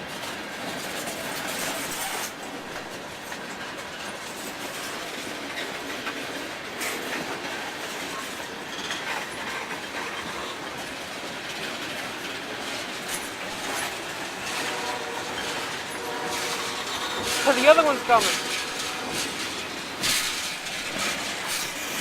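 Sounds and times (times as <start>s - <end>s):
freight train rolling past: 0.0s - 22.0s
wheels clicking over rail joints: 0.0s - 22.0s.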